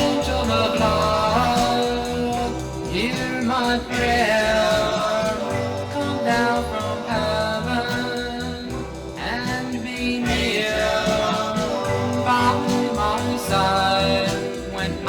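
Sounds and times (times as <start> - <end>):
vocal group singing with instruments: 0.0 - 15.0.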